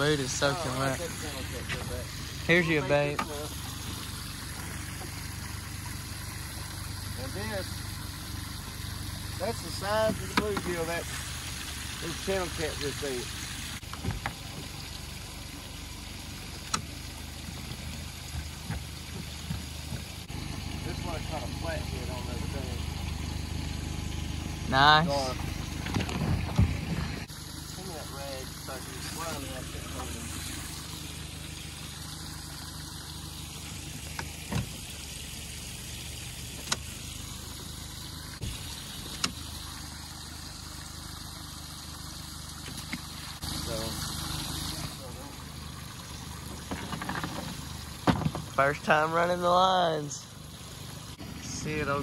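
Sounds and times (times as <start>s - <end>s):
small boat on a river: 0.0s - 52.0s
water trickling: 0.0s - 52.0s.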